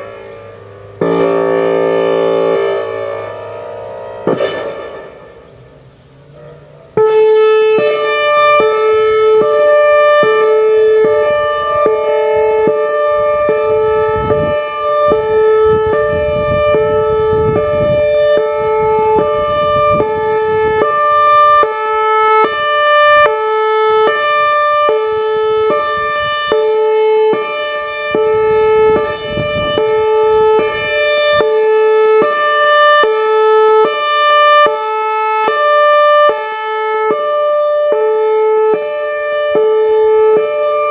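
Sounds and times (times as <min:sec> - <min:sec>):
hi-lo warning siren: 0:00.0 - 0:40.9.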